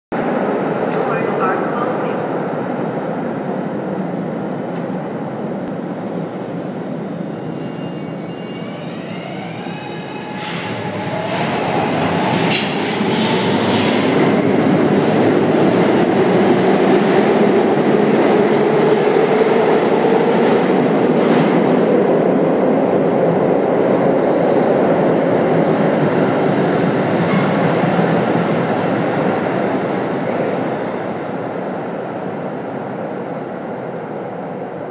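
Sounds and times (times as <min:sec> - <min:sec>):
train rumbling past: 0:00.2 - 0:34.9.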